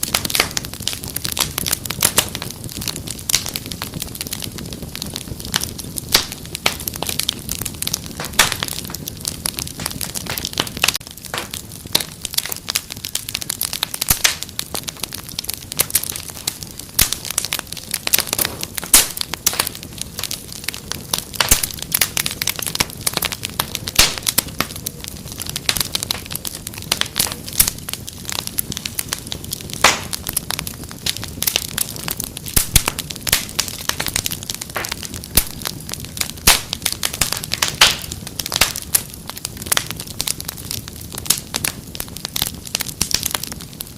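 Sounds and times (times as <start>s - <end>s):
fire crackling in a fireplace: 0.0s - 43.9s.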